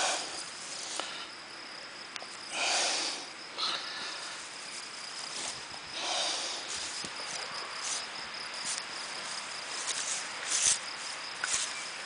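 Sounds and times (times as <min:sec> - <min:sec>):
grass rustling: 0:00.0 - 0:01.2, 0:02.2 - 0:12.0.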